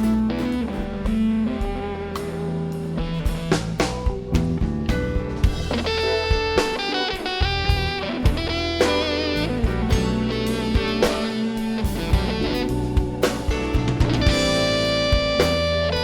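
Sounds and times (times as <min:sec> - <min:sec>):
electric guitar melody: 0:00.0 - 0:16.0
steady drum beat: 0:00.0 - 0:16.0.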